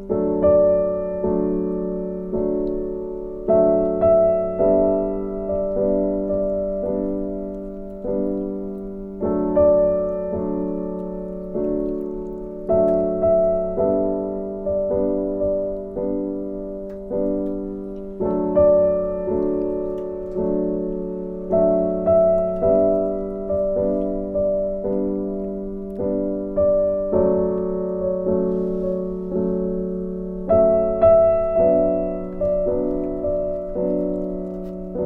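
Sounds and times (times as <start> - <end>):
gentle piano music: 0.0 - 35.0.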